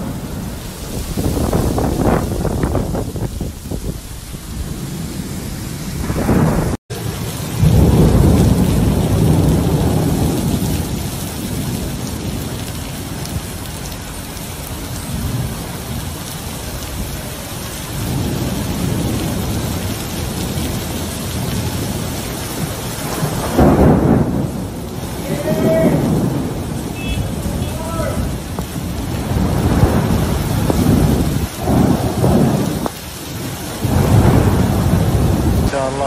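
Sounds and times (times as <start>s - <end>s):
deep rumble of thunder: 0.0s - 14.0s, 14.6s - 36.0s
heavy rain pouring: 0.0s - 36.0s.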